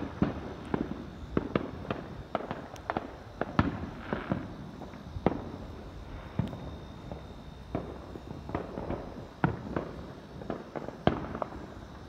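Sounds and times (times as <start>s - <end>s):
fireworks bangs and pops: 0.0s - 5.6s, 6.3s - 11.8s.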